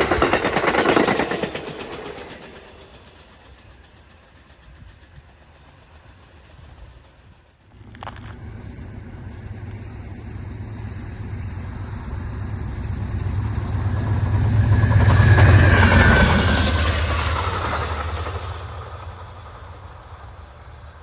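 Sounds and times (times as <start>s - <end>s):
passenger train rumbling past: 0.0s - 21.0s.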